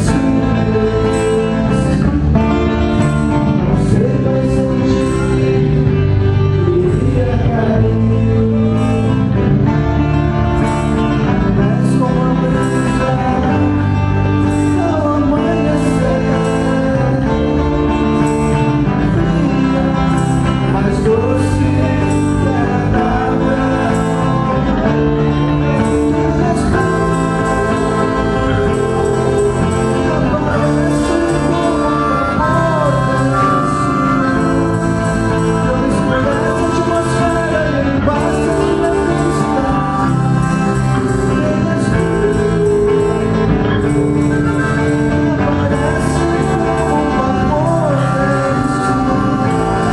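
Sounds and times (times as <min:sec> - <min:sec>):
live band playing: 0:00.0 - 0:49.9
person singing: 0:00.0 - 0:49.9.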